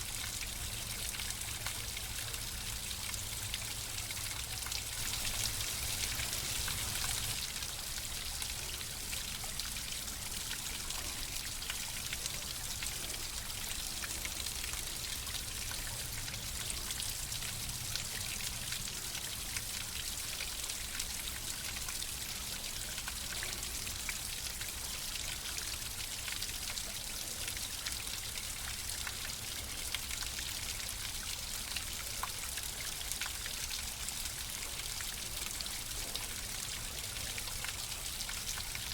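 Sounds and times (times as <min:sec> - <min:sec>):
water splashing and trickling: 0:00.0 - 0:38.9.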